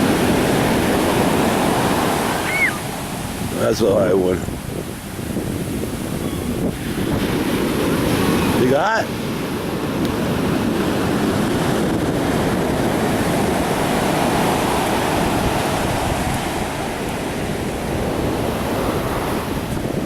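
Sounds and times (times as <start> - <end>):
surf breaking on sand beach: 0.0 - 20.0.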